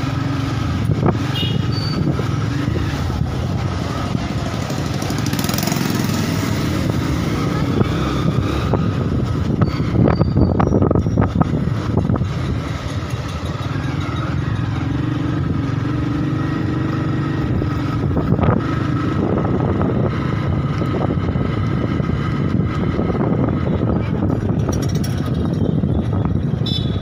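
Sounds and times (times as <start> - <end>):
motorcycle engine running: 0.0 - 27.0
passing traffic: 0.0 - 27.0
road rush: 0.0 - 27.0.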